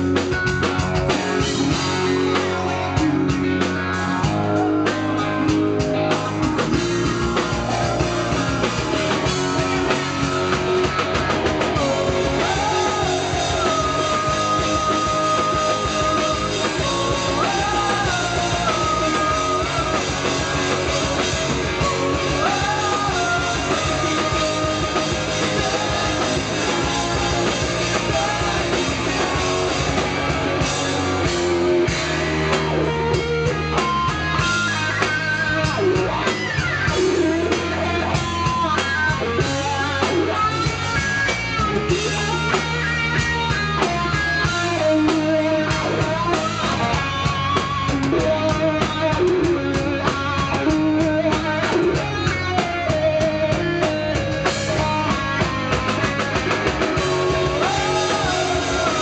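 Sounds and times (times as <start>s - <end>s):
male lead singer: 0.0s - 59.0s
rock band playing live: 0.0s - 59.0s.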